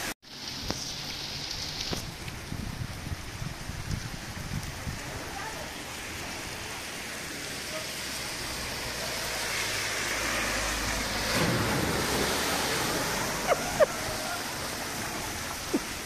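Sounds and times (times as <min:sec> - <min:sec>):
car tyres hissing through water: 0:00.0 - 0:16.0
heavy rain pouring: 0:00.0 - 0:16.0.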